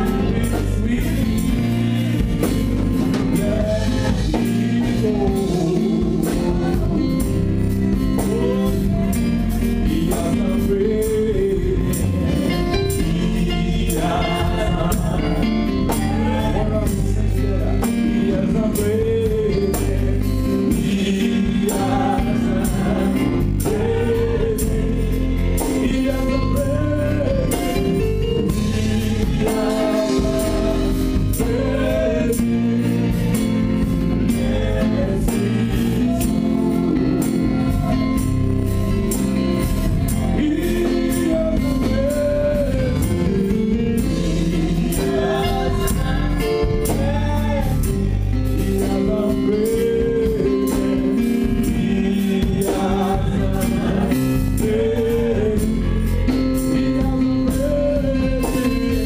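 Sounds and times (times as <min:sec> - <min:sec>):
congregation singing along: 0:00.0 - 0:59.0
drum kit: 0:00.0 - 0:59.0
keyboard playing: 0:00.0 - 0:59.0
singers on microphones: 0:00.0 - 0:59.0.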